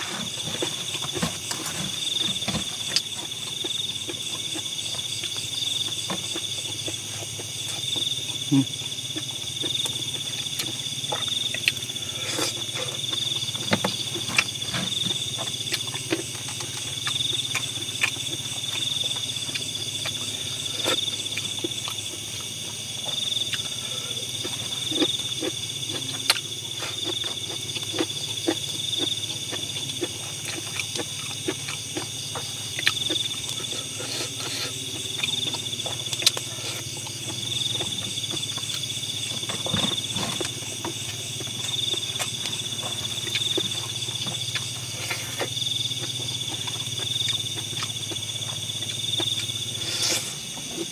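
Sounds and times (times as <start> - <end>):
insect chorus trilling: 0.0 - 50.9.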